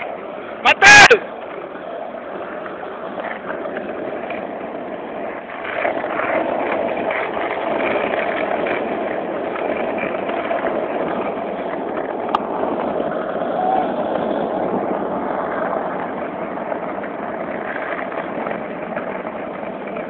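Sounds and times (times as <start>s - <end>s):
skateboard wheels rolling on asphalt: 0.0s - 20.0s.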